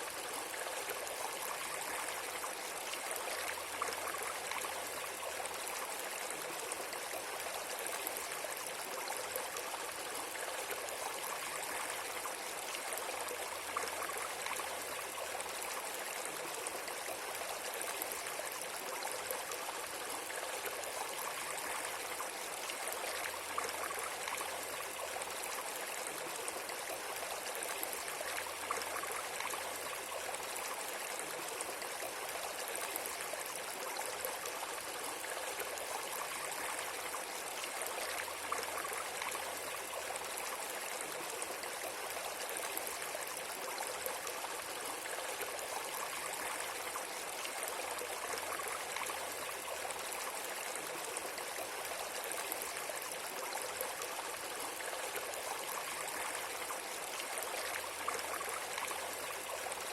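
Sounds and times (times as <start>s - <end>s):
flowing water trickling: 0.0s - 59.9s.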